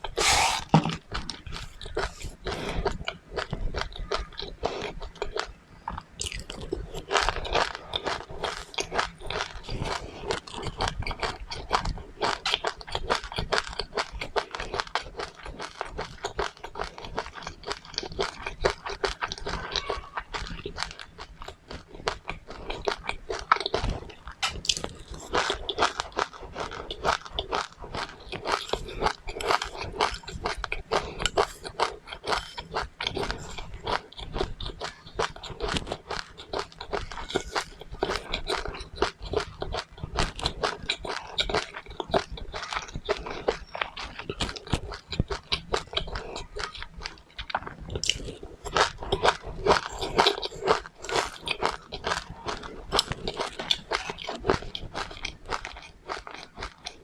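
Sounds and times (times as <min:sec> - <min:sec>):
person chewing crunchy seeds: 0:00.0 - 0:57.0.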